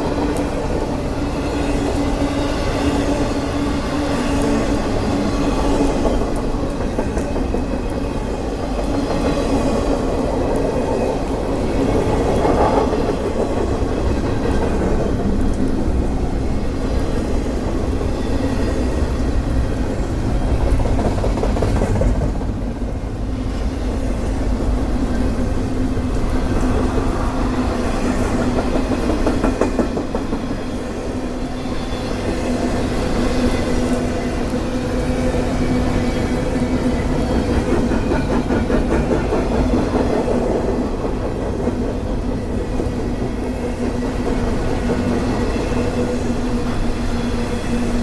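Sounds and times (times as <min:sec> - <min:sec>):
steel wheels rumbling on rails: 0:00.0 - 0:48.0.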